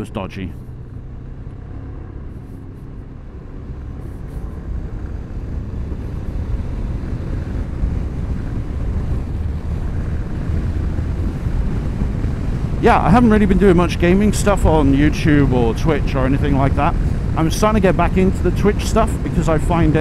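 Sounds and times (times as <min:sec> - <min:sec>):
motorcycle engine: 0:00.0 - 0:20.0
wind noise on microphone: 0:02.2 - 0:20.0.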